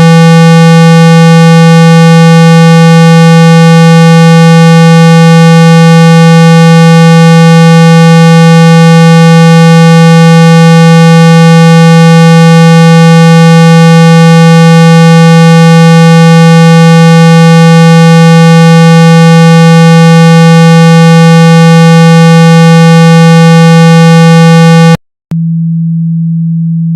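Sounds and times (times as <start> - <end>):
loud buzzy low tone: 0.0 - 26.9.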